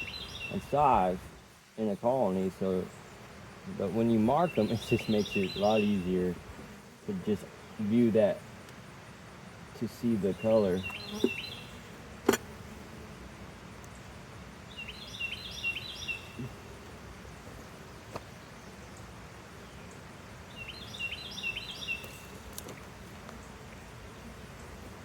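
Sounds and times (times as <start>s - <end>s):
songbird chirping: 0.0s - 8.8s, 9.8s - 12.4s, 13.8s - 24.8s.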